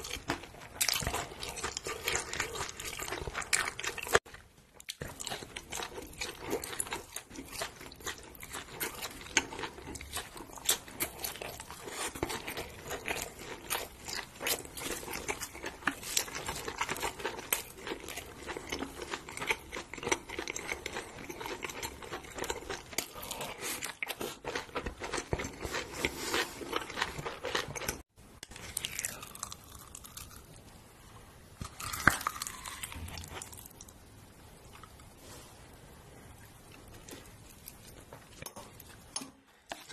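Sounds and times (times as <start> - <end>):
chewing and crunching: 0.0 - 30.6, 31.6 - 33.9.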